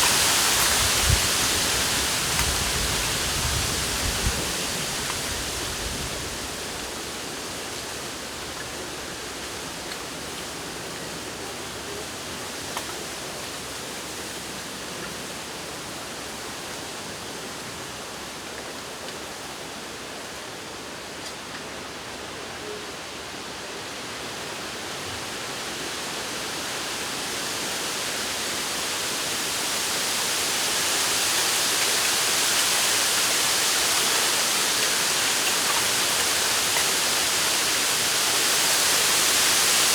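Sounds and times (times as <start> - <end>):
wind rustling bamboo leaves: 0.0 - 39.9.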